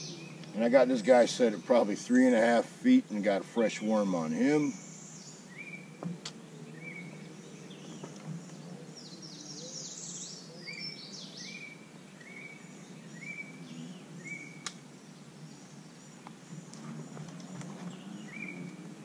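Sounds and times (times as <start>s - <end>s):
birds singing and calling: 0.0s - 19.0s
low background noise: 0.0s - 19.0s.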